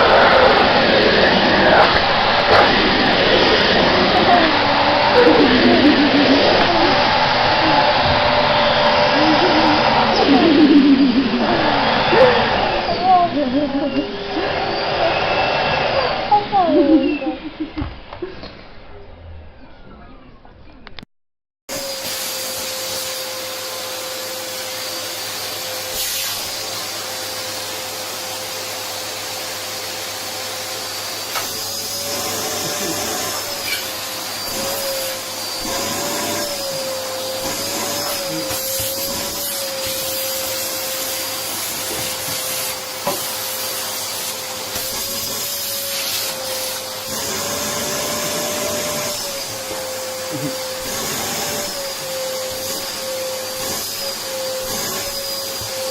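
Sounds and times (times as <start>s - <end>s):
vacuum cleaner motor whine: 0.0s - 17.8s, 21.7s - 55.9s.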